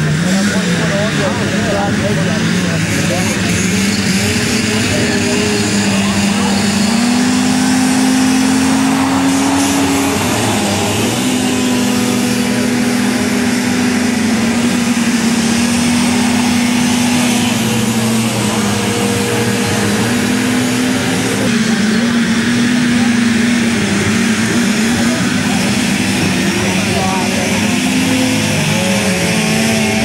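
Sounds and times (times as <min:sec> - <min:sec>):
atv engines racing: 0:00.0 - 0:30.0.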